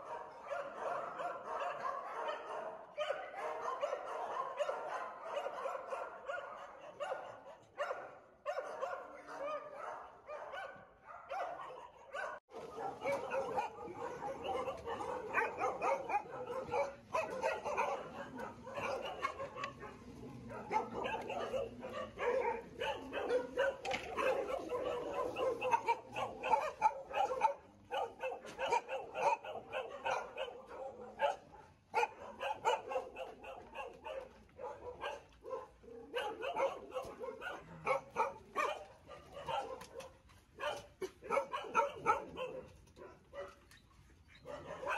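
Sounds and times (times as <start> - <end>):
dogs barking and yipping: 0.0 - 44.9.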